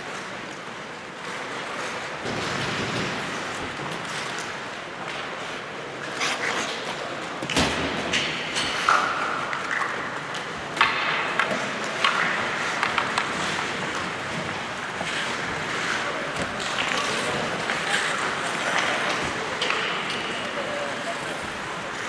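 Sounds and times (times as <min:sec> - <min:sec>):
hockey sticks and puck clacking: 0:00.0 - 0:22.0
skates scraping on ice: 0:00.0 - 0:22.0.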